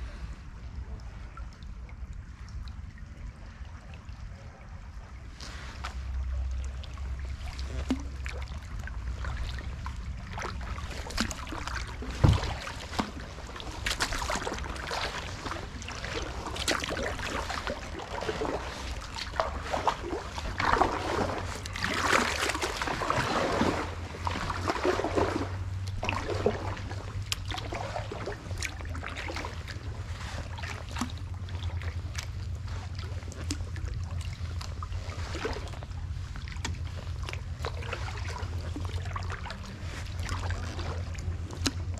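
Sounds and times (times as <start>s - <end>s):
paddle splashes and drips: 0.0s - 41.9s
steady low rumble: 0.0s - 41.9s.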